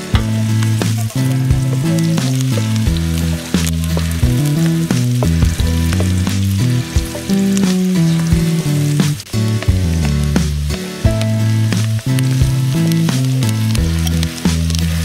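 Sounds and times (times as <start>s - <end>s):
curry sizzling in a pot: 0.0s - 15.0s
instrumental background music: 0.0s - 15.0s.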